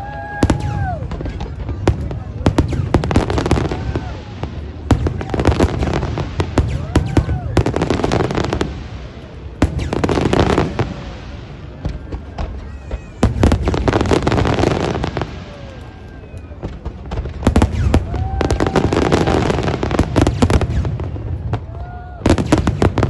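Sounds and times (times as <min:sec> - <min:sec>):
fireworks bursts and crackling: 0:00.0 - 0:23.0.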